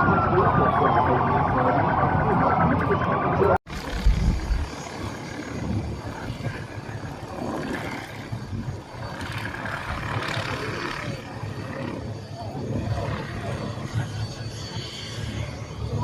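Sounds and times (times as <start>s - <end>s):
noisy background: 0.0s - 16.0s.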